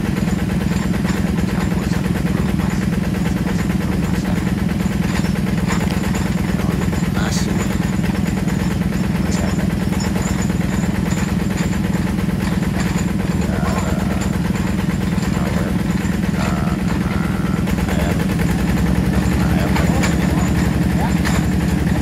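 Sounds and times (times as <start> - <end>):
drilling rig engine droning: 0.0 - 22.0.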